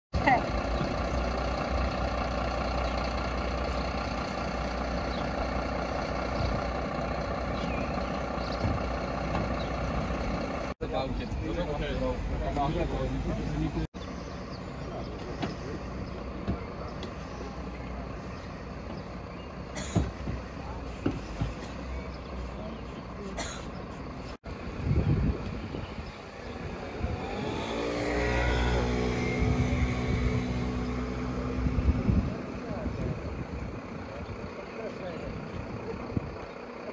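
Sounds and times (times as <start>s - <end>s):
vehicle engine idling: 0.2s - 36.9s.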